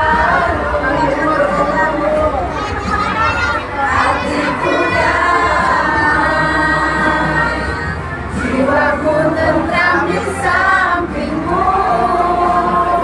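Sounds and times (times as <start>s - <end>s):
crowd singing together: 0.0s - 13.0s.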